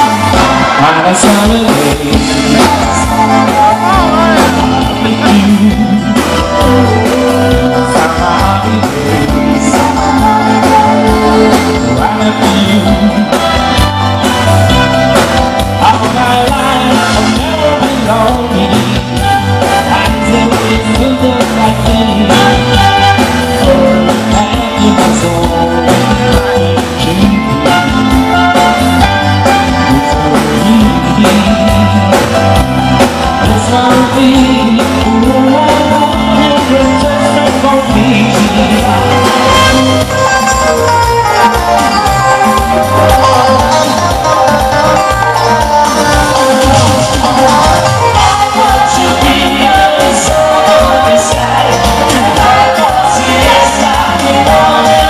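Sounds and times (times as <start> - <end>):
singers' vocals: 0.0 - 15.0, 15.6 - 42.0, 42.7 - 55.0
live rock band playing: 0.0 - 55.0.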